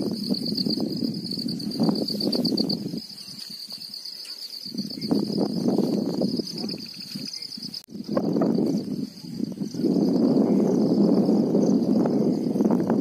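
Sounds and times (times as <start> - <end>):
wind on microphone: 0.0 - 4.0, 4.6 - 13.0
insects trilling: 0.0 - 13.0.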